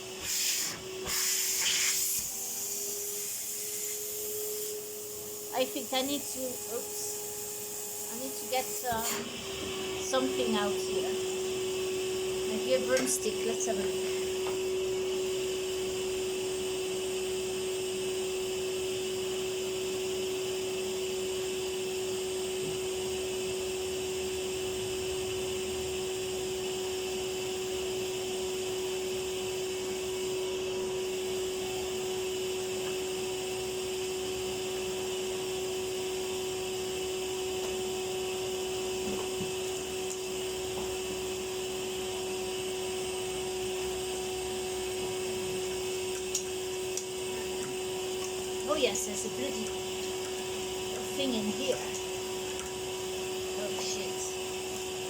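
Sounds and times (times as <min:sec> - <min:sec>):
vacuum cleaner humming: 0:00.0 - 0:55.0.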